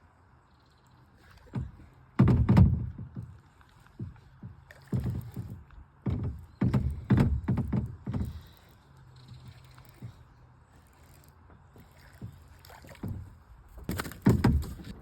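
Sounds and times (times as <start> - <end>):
paddle thumps and splashes: 1.2 - 10.4, 11.5 - 15.0.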